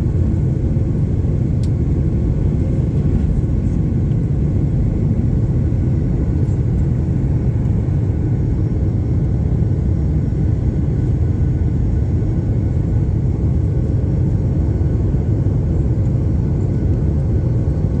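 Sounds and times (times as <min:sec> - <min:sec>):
engine and airflow rumble: 0:00.0 - 0:18.0
faint steady whine: 0:00.0 - 0:18.0.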